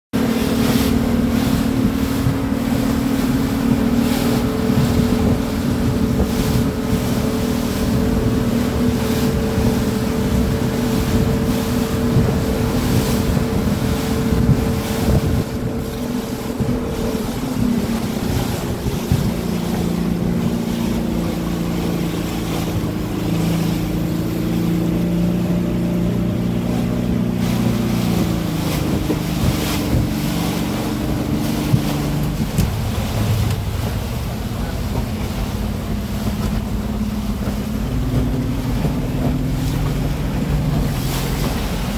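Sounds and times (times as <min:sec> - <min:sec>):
boat engine running: 0:00.1 - 0:41.9
water rushing past hull: 0:00.1 - 0:41.9
wind buffeting microphone: 0:00.1 - 0:41.9.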